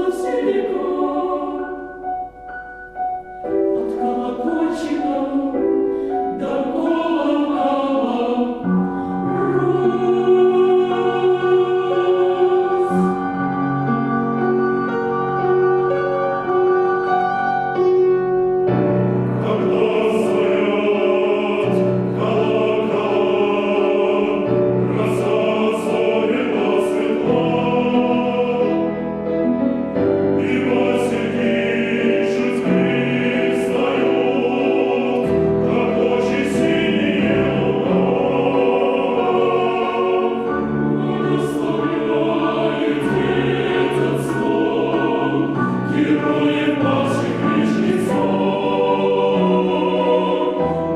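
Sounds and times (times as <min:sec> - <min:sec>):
chamber choir singing: 0:00.0 - 0:50.9
piano accompaniment: 0:00.0 - 0:50.9.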